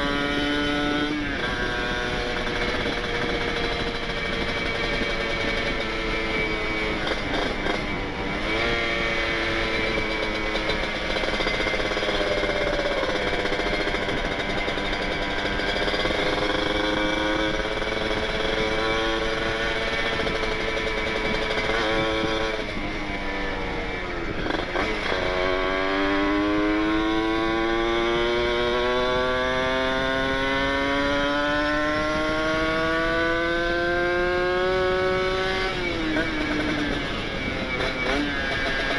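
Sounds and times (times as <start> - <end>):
two-stroke motorcycle engine: 0.0 - 38.9.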